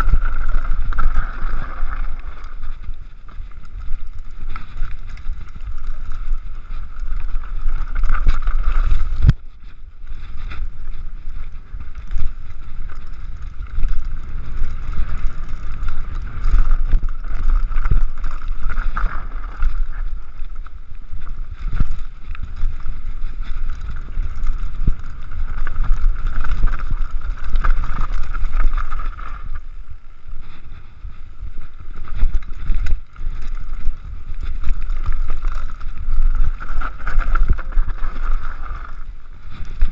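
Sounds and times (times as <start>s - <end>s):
wind buffeting the microphone: 0.0s - 39.9s.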